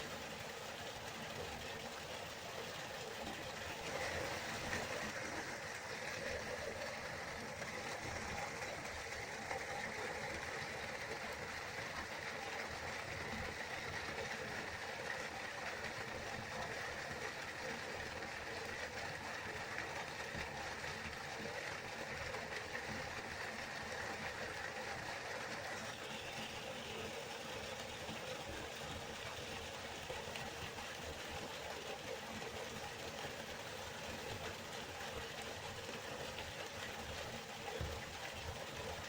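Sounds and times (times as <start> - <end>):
river water flowing: 0.0 - 39.0.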